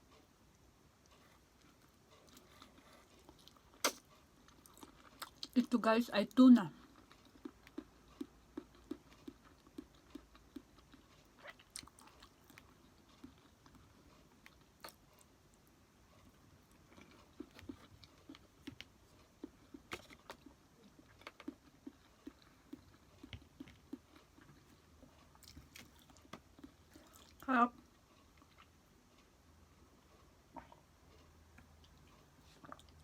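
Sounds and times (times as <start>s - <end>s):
close-up chewing: 0.0s - 33.0s.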